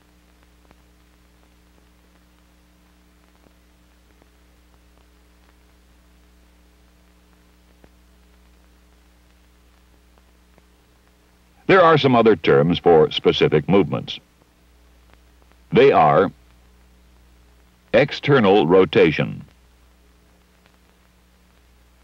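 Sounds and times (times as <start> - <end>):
faint hum and hiss: 0.0 - 22.0.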